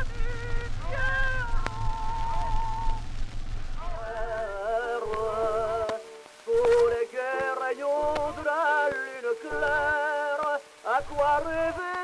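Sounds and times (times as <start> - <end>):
voice singing with vibrato: 0.0 - 3.0, 3.8 - 12.0
record surface clicks: 0.0 - 12.0.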